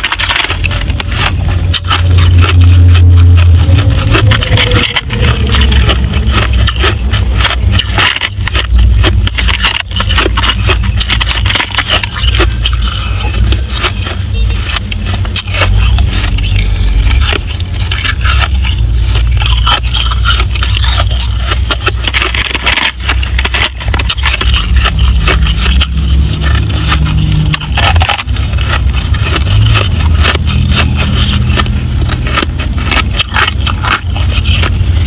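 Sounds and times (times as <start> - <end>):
fingers scraping crushed ice: 0.0 - 35.0
ice being chewed: 0.0 - 35.0.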